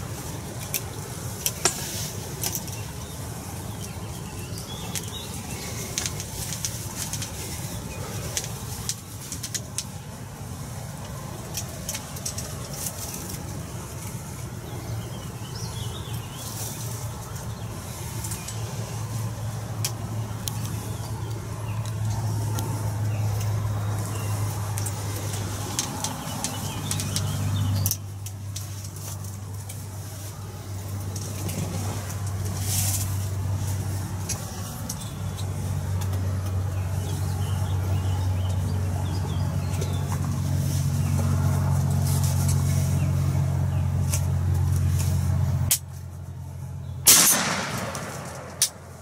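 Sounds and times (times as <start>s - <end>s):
low engine-like hum: 0.0s - 49.0s.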